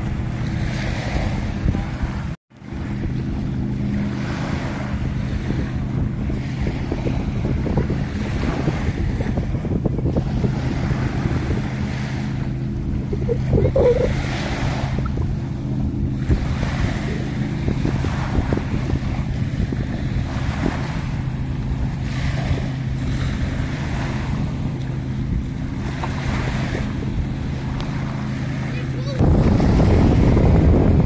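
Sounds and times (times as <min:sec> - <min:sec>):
small waves washing onto beach: 0:00.0 - 0:31.0
steady low hum: 0:00.0 - 0:31.0
wind buffeting microphone: 0:00.0 - 0:31.0.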